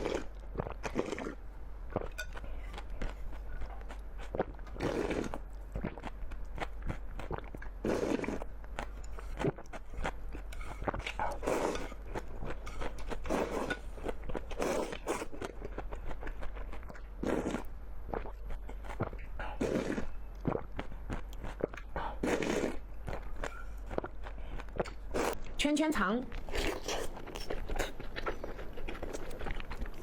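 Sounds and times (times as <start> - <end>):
person chewing and crunching: 0.0 - 25.5, 26.3 - 30.0.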